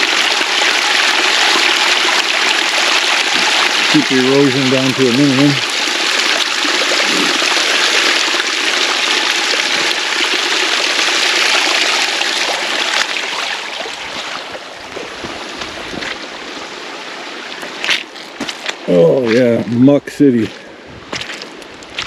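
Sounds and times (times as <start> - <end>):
water rushing over rocks: 0.0 - 19.9.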